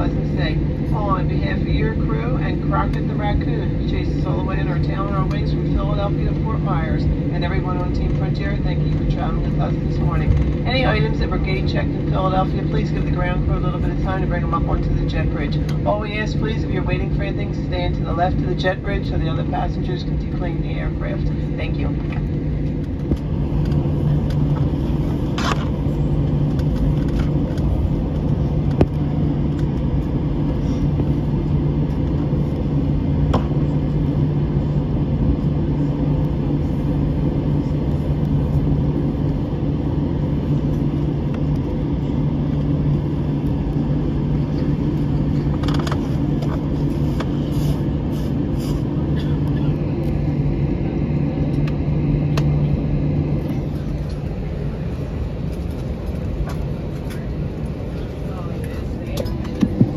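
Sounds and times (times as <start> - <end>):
jet engine hum in cabin: 0.0 - 59.9.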